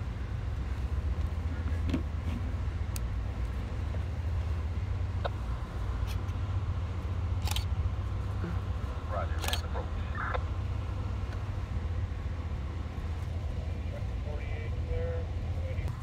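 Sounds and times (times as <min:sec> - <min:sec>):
train rumbling on board: 0:00.0 - 0:16.0.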